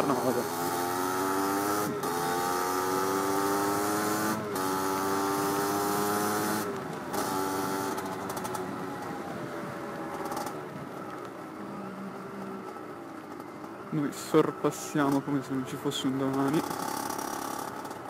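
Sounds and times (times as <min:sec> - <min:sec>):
two-stroke motorbike engine: 0:00.0 - 0:18.0.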